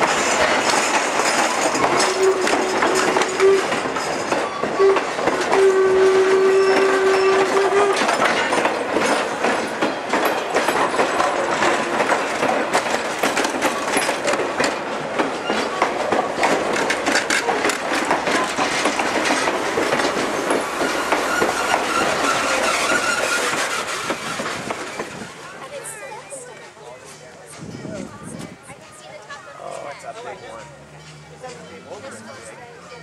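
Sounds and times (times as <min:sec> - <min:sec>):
train wheels clicking over rail joints: 0:00.0 - 0:29.3.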